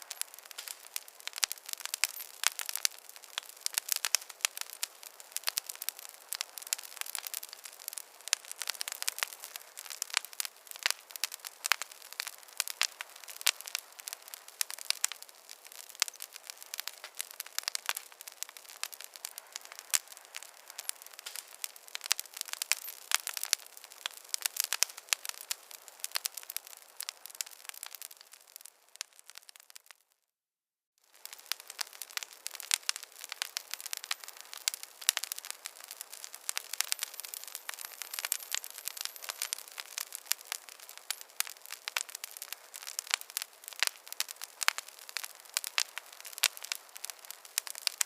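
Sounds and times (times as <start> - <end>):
wood fire crackling: 0.0 - 30.1, 31.1 - 48.0.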